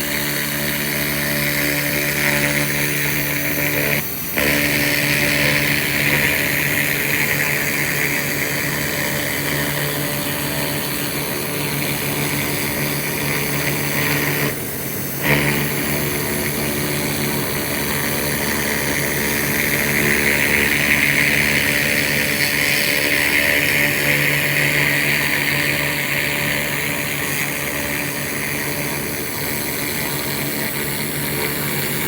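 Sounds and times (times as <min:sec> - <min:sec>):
constant electrical hum: 0:00.0 - 0:32.0
laser machine hissing: 0:00.0 - 0:32.0.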